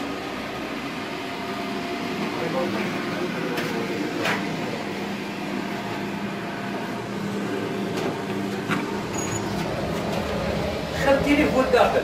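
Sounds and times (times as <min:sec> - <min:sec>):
pellet boiler fan hum: 0:00.0 - 0:12.0.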